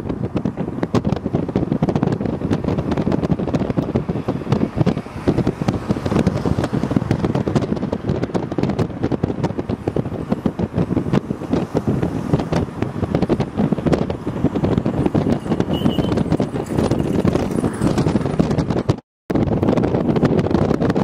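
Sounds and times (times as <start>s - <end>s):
vehicle engine and road noise: 0.0s - 21.0s
wind buffeting microphone: 0.0s - 21.0s.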